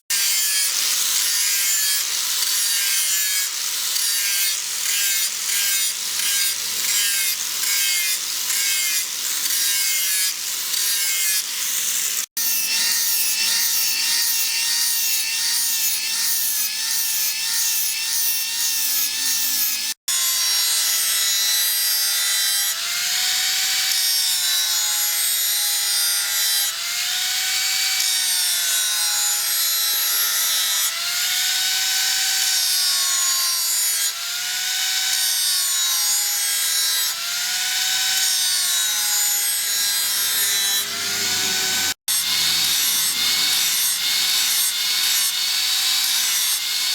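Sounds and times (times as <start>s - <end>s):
file rasping on steel: 0.1s - 46.9s.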